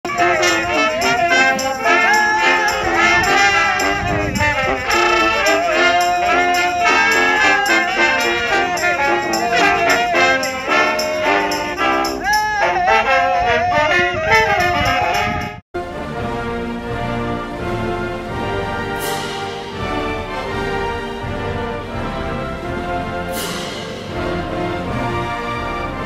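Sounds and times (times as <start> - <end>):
brass band playing upbeat tune: 0.0 - 26.0.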